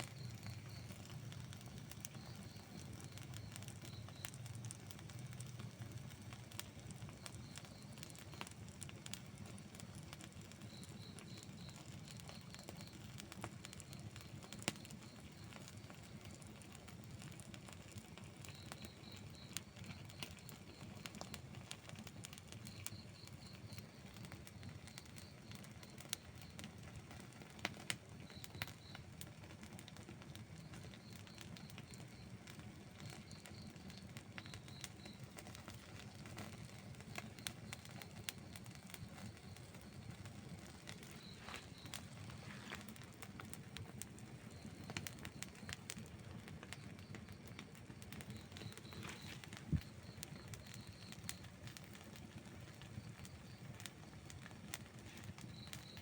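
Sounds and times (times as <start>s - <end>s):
low rush of flame: 0.0s - 25.3s, 30.3s - 56.0s
campfire crackling and popping: 0.0s - 56.0s.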